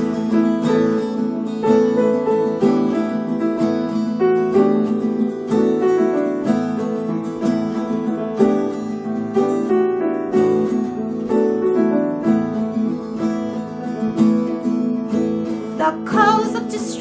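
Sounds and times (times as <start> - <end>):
acoustic guitar picking and strumming: 0.0 - 17.0
keyboard: 0.0 - 17.0.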